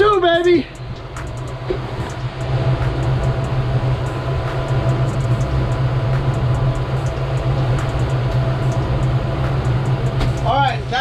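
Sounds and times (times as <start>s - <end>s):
outboard motors droning: 0.0s - 11.0s.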